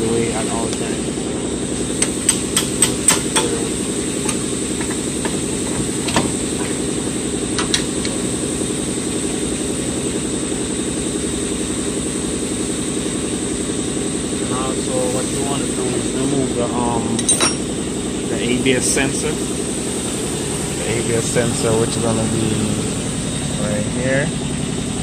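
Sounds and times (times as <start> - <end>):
air compressor pulsing drone: 0.0 - 25.0.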